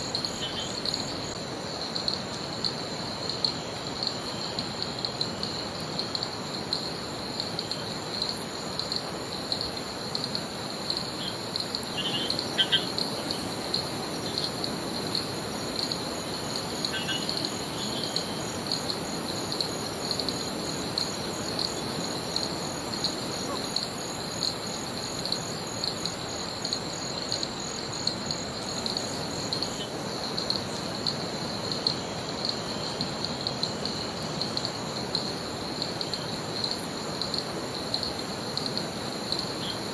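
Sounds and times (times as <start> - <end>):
higher pulsing insect call: 0.0 - 39.9
insects trilling: 0.0 - 39.9.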